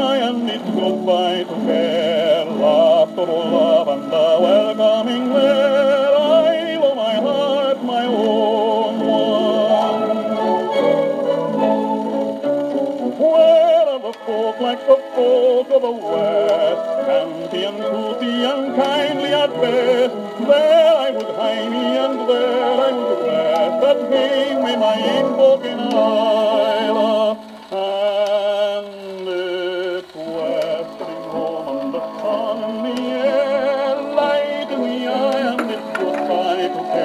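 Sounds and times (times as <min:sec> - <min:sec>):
man singing on gramophone record: 0:00.0 - 0:37.0.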